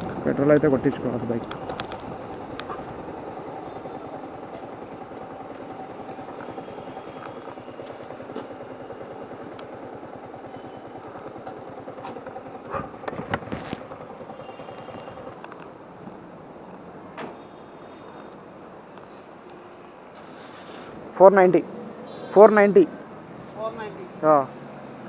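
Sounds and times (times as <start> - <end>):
motorcycle engine idling: 0.1 - 20.4.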